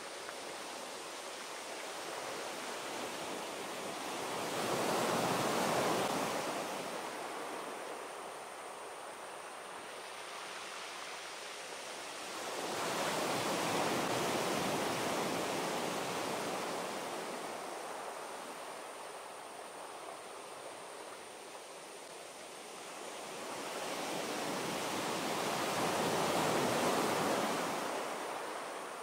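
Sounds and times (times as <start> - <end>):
steady hiss of surf: 0.0 - 29.0
waves breaking on beach: 0.0 - 29.0.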